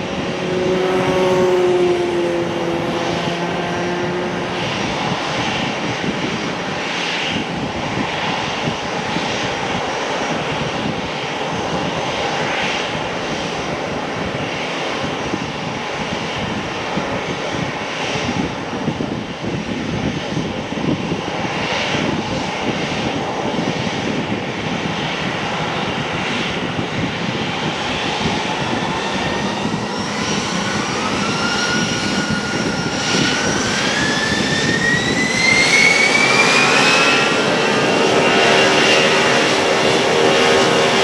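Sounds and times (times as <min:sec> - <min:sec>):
jet engines spooling up: 0:00.0 - 0:41.0.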